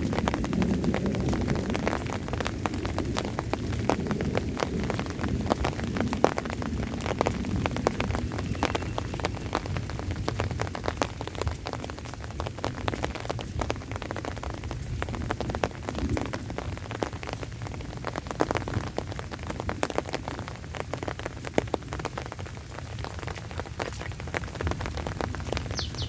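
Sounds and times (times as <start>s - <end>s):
rain falling: 0.0s - 26.0s
raindrops tapping nearby: 0.0s - 26.0s.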